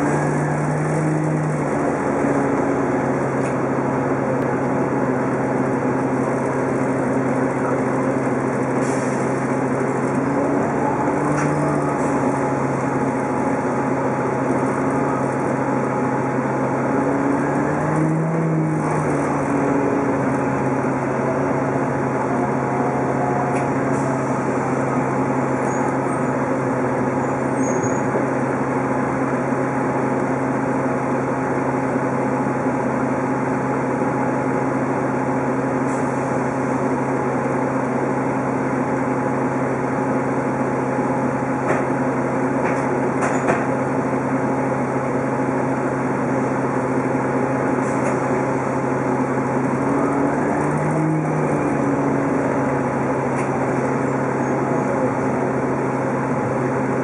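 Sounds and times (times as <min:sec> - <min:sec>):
bus engine drone with whine: 0:00.0 - 0:57.0.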